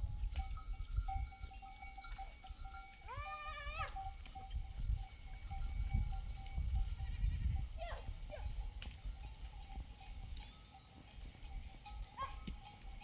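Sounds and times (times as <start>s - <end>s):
livestock bell ringing: 0.0s - 13.0s.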